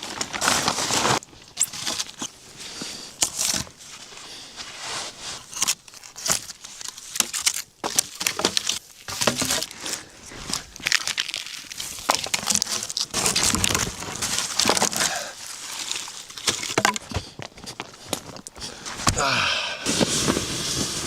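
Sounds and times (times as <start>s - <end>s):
rustling and crinkling: 0.0s - 19.2s, 19.9s - 21.0s.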